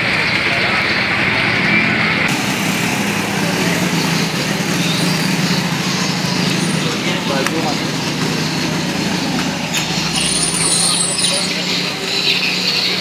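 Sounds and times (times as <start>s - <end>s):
motorbike engines running: 0.0s - 13.0s
tyres hissing on wet road: 2.2s - 13.0s.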